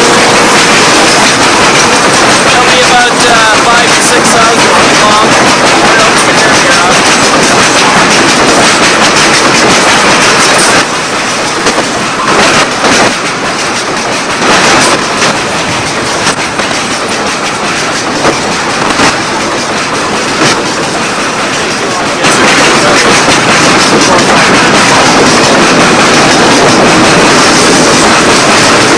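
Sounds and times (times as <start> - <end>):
train cars rumbling and rattling: 0.0 - 28.9
wheels clacking over rail joints: 0.0 - 28.9.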